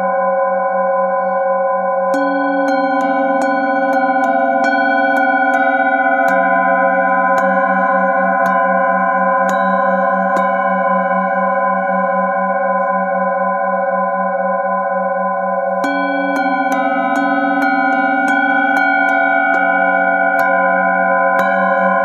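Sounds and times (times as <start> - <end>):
singing bowls ringing: 0.0 - 22.0
mallet striking bowl: 2.0 - 22.0.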